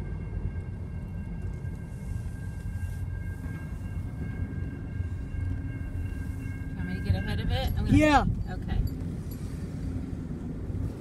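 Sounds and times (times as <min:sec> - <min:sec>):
crossing bell ringing: 0:00.0 - 0:11.0
diesel locomotive rumbling: 0:00.0 - 0:11.0.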